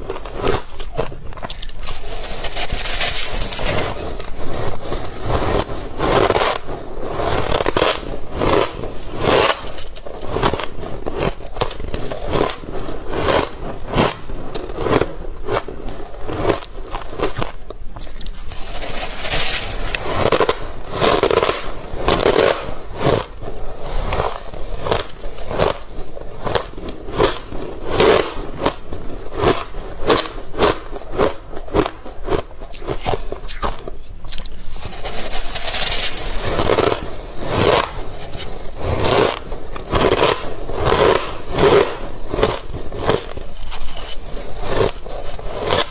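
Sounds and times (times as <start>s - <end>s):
frost crunching and scraping: 0.0s - 45.9s.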